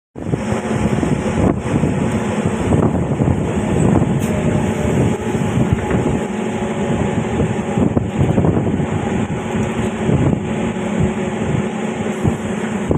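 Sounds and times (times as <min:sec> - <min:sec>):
train carriage rumbling on rails: 0:00.2 - 0:12.9.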